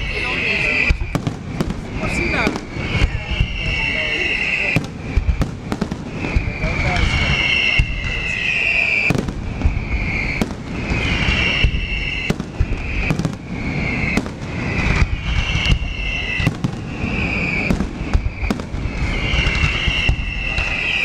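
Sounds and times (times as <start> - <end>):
firework cracks and bangs: 0.0 - 21.0
firework whistles: 0.0 - 21.0.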